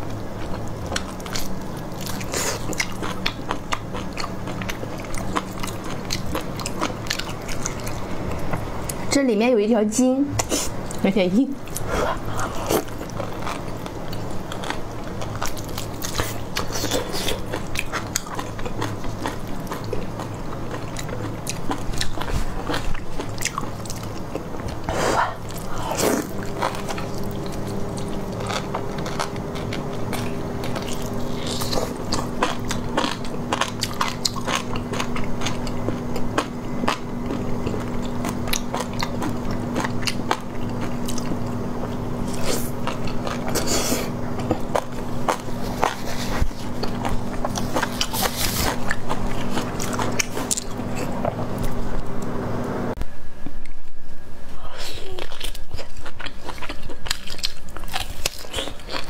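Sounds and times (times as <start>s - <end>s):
biting and chewing meat: 0.0s - 9.1s, 11.6s - 52.2s, 55.2s - 59.0s.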